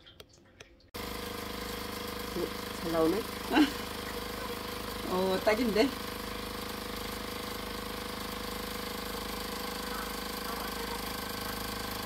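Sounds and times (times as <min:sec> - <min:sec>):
spin dryer motor hum: 0:00.1 - 0:12.0.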